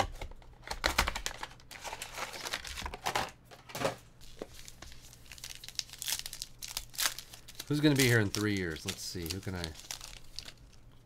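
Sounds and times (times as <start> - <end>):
card pack wrappers tearing: 0.0 - 3.3, 4.3 - 10.8.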